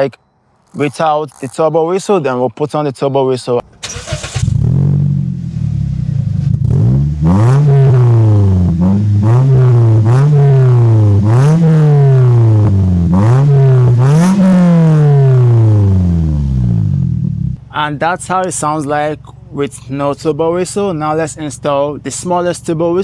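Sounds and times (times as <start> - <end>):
car engine idling and revving: 3.6 - 23.0.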